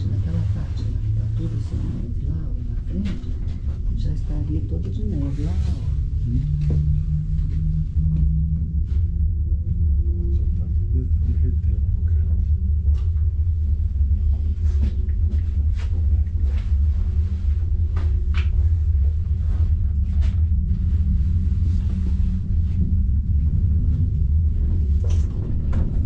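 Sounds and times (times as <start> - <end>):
cable car cabin rumble: 0.0 - 26.0.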